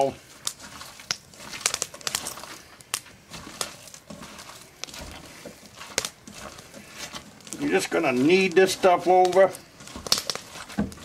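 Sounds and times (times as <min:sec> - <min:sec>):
hands kneading raw meat: 0:00.0 - 0:11.0.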